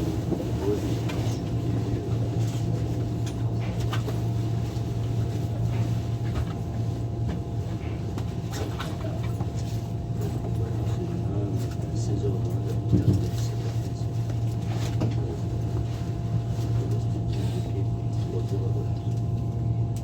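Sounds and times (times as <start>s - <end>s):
train electrical hum: 0.0s - 20.0s.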